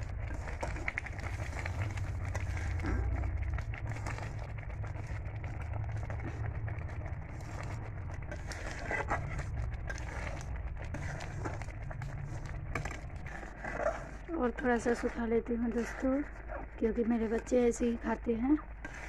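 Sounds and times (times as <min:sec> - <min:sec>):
metal spatula scraping a pan: 0:00.0 - 0:19.0
steady low rumble: 0:00.0 - 0:19.0.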